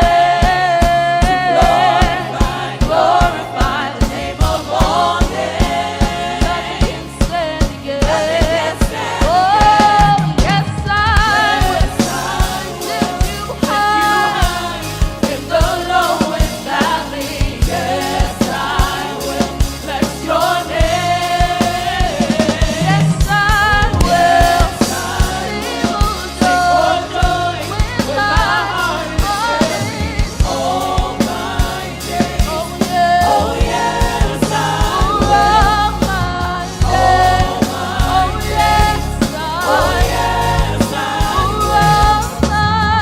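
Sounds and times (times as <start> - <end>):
bass: 0.0 - 43.0
drum kit beat: 0.0 - 43.0
gospel choir singing: 0.0 - 43.0.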